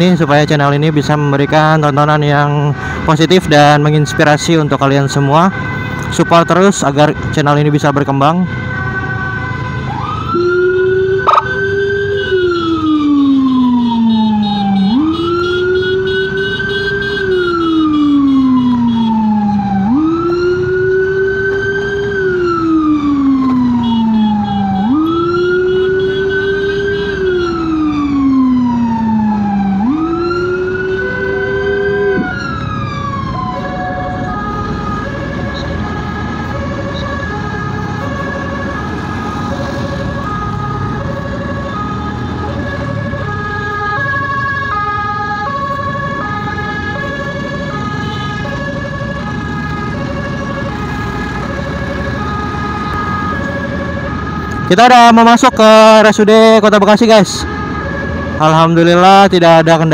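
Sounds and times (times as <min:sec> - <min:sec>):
road noise: 0:00.0 - 0:59.9
siren wailing: 0:00.0 - 0:59.9.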